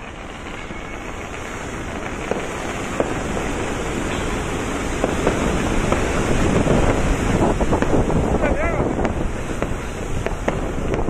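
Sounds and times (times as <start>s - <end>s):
ship propeller churning water: 1.0s - 11.0s.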